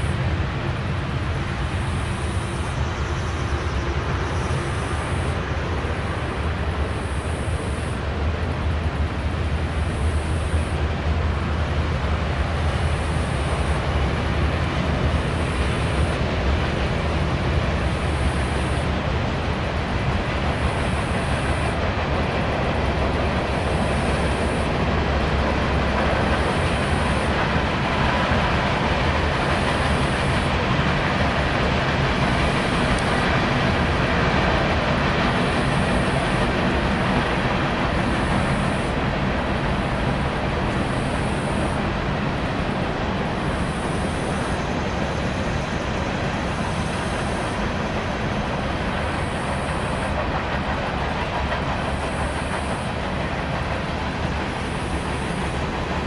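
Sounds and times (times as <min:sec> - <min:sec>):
freight train rolling on rails: 0:00.0 - 0:56.0.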